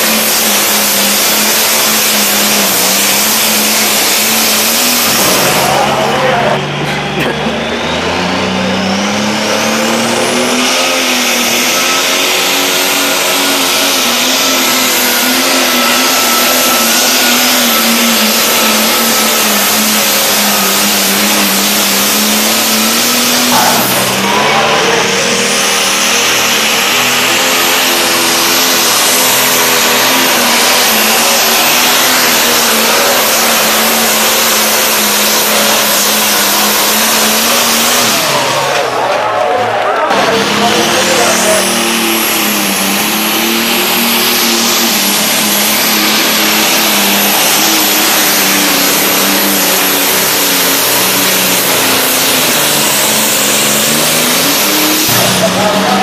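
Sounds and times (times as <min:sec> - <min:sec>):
diesel tractor engine at high revs: 0:00.0 - 0:56.0.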